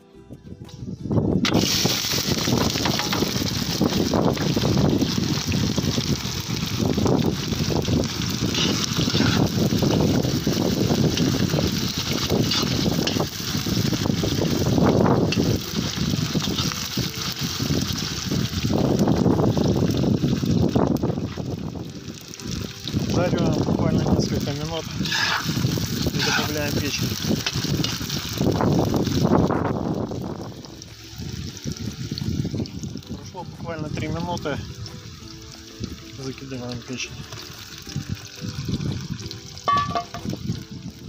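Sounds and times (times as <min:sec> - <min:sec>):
vegetables sizzling in hot fat: 0:01.4 - 0:41.0.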